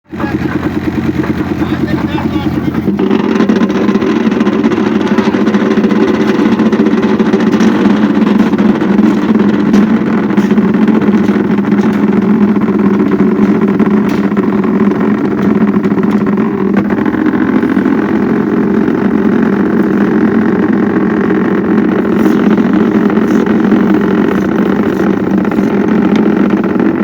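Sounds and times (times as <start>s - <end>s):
machinery engine running: 0.0s - 27.0s.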